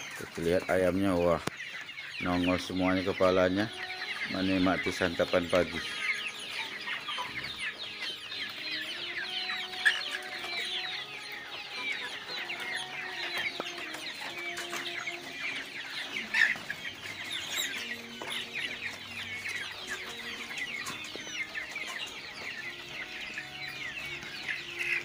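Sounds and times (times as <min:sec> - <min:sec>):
chicks cheeping and clucking: 0:00.0 - 0:25.0.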